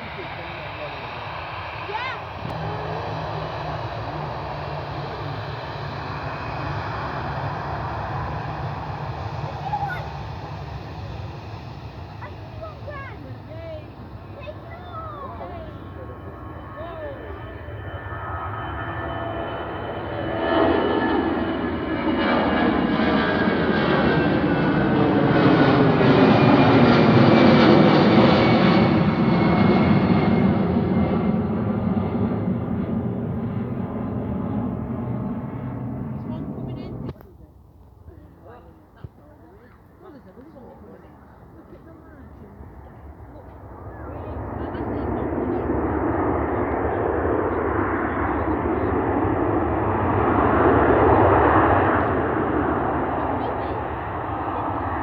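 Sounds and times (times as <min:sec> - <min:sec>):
jet airliner passing by: 0:00.0 - 0:37.3, 0:37.9 - 0:55.0.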